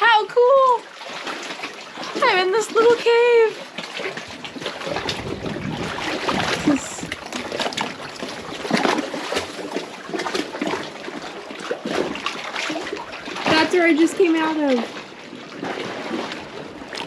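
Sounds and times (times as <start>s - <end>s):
seawater splashing among rocks: 0.5s - 17.0s.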